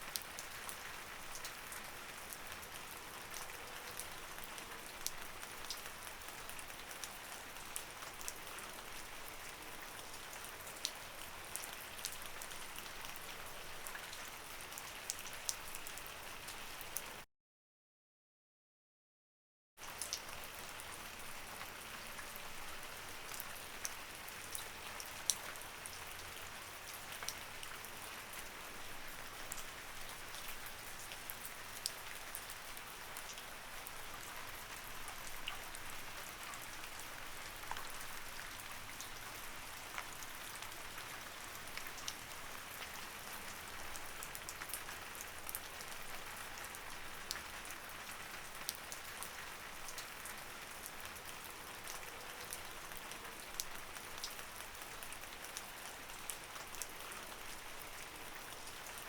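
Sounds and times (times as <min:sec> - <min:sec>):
light rain falling: 0:00.0 - 0:17.2, 0:19.8 - 0:59.0.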